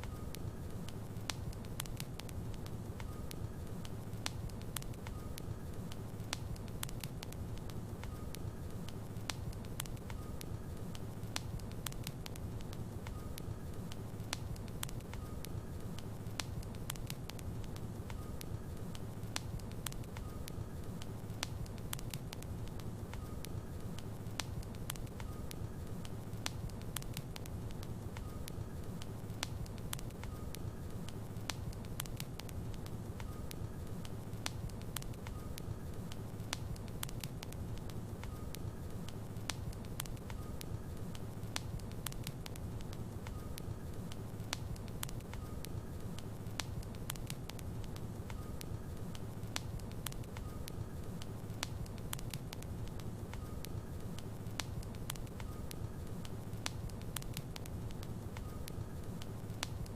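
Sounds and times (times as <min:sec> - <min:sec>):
wood crackling and popping: 0:00.0 - 0:59.9.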